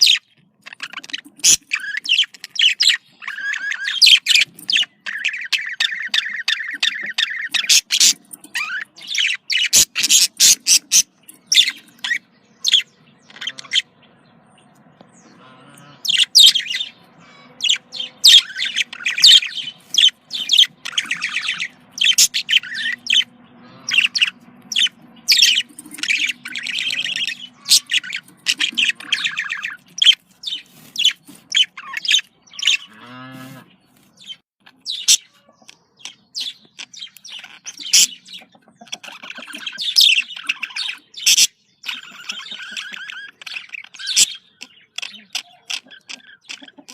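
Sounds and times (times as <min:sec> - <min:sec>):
budgerigars chirping: 0:00.0 - 0:46.9.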